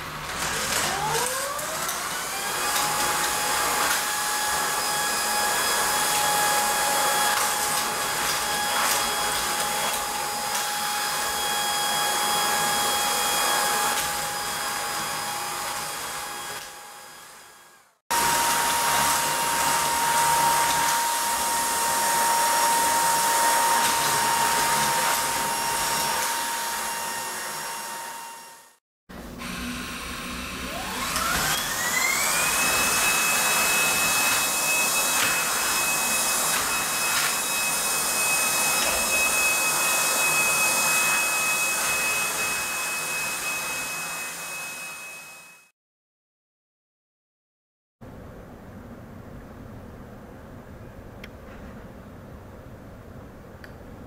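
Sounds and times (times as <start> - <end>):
vacuum cleaner whine: 0.0 - 45.7.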